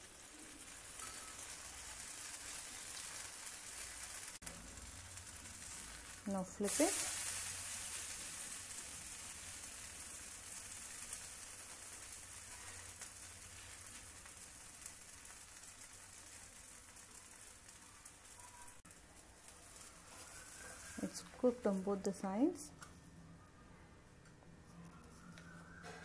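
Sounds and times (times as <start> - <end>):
dosa sizzling on a pan: 0.0 - 22.7.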